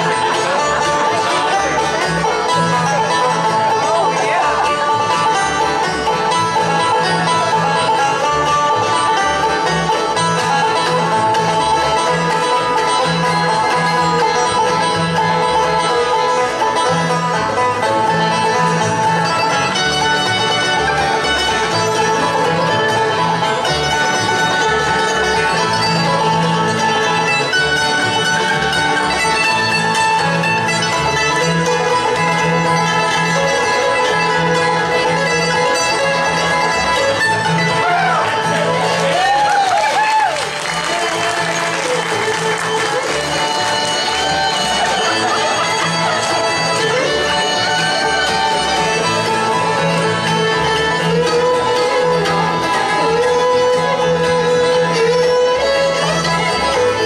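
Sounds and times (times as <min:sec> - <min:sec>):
bluegrass band playing: 0:00.0 - 0:57.0.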